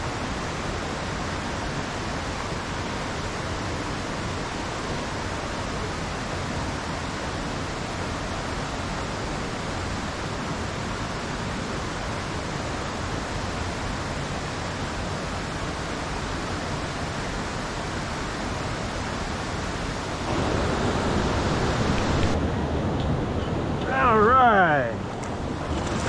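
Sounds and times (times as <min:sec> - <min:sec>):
mountain stream over boulders: 0:00.0 - 0:26.0.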